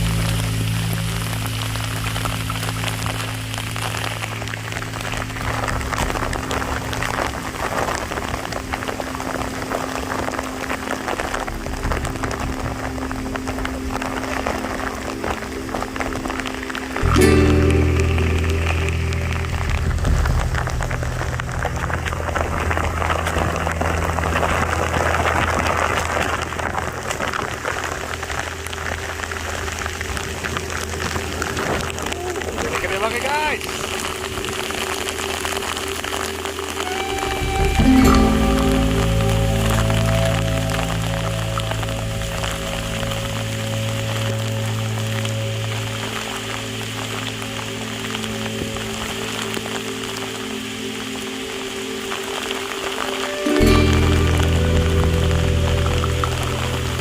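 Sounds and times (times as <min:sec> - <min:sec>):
low steady hum: 0:00.0 - 0:32.9, 0:33.6 - 0:57.0
rain hissing: 0:00.0 - 0:57.0.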